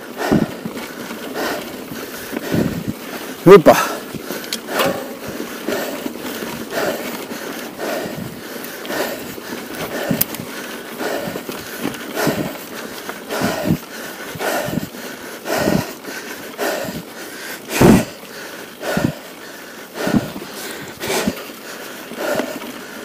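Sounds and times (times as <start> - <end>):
person breathing hard: 0.0 - 23.0
tyres rustling on dirt trail: 0.0 - 23.0.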